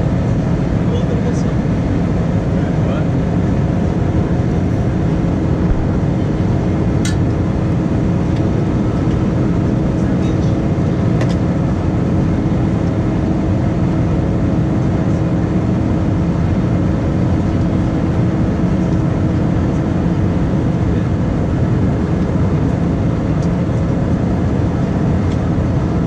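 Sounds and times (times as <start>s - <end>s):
airplane cabin engine roar: 0.0s - 26.0s.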